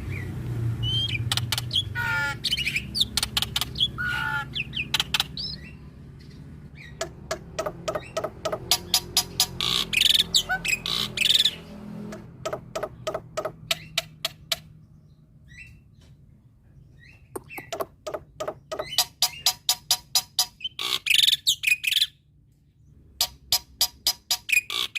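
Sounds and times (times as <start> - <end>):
loud harsh bird calls: 0.0 - 14.8, 17.0 - 22.2
bird chipping song: 0.0 - 24.9.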